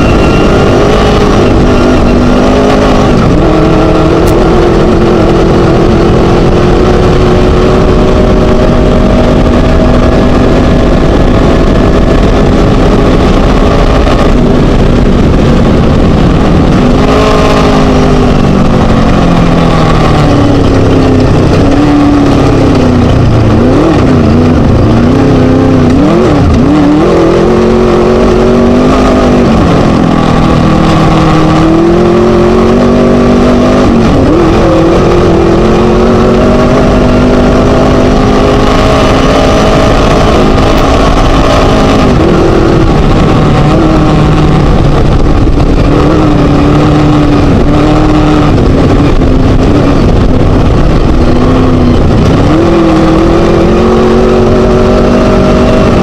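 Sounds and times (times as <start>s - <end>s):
race buggy engine revving: 0.0s - 56.0s.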